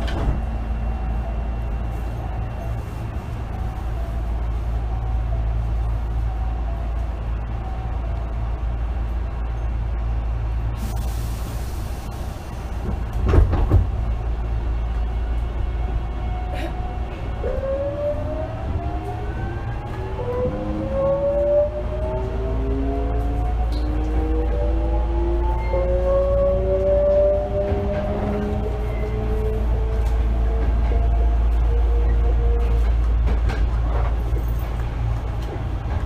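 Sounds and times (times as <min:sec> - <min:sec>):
train inverter whine: 0:00.0 - 0:36.0.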